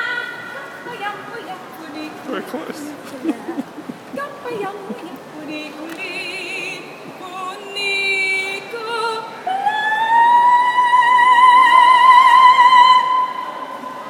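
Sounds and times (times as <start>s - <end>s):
woman singing operatically: 0.0s - 2.3s, 4.2s - 14.0s.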